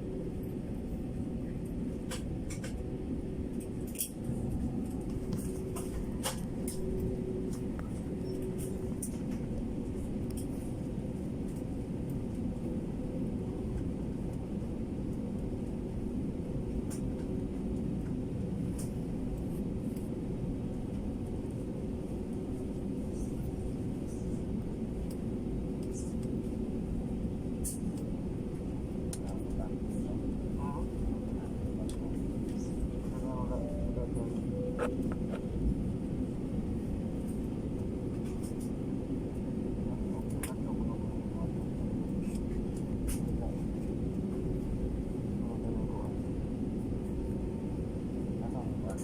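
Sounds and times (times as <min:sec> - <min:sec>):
airliner engines rumbling in cabin: 0:00.0 - 0:49.0.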